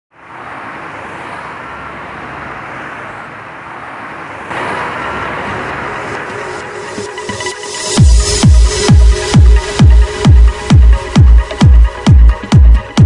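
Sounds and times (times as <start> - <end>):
road traffic passing: 0.1 - 13.0.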